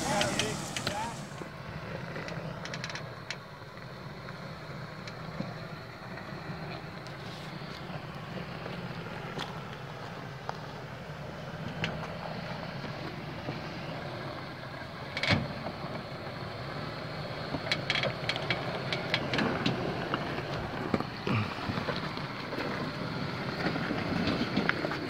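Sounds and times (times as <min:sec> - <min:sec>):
pickup engine running: 0:00.0 - 0:25.0.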